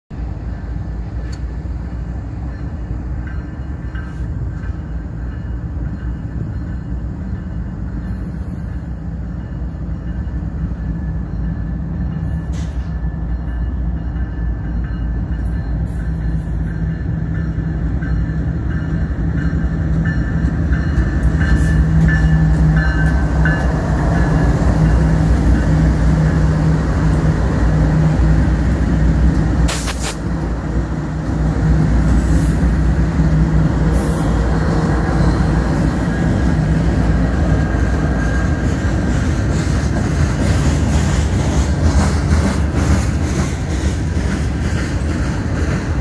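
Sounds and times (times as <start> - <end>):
diesel locomotive engine rumble: 0.1 - 46.0.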